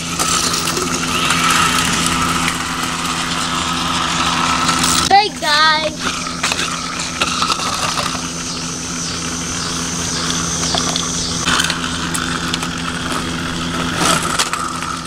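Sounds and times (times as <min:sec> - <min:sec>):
faint wavering high whine: 0:00.0 - 0:15.0
motor humming: 0:00.0 - 0:15.0.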